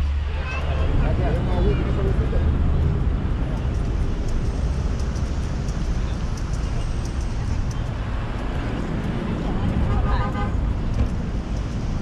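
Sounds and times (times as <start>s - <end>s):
tyres rolling on wooden boardwalk: 0.0s - 12.0s
wind rumble: 0.0s - 12.0s
light ticks: 1.4s - 12.0s.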